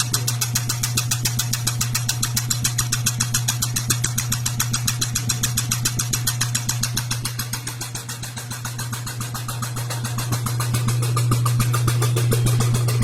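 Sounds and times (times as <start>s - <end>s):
rapid even ticking: 0.0s - 13.0s
washing machine motor humming: 0.0s - 13.0s.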